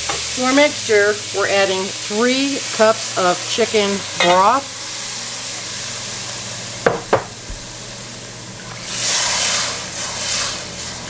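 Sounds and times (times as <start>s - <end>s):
food sizzling in a pot: 0.0s - 11.0s
hissing as broth is poured: 0.0s - 11.0s.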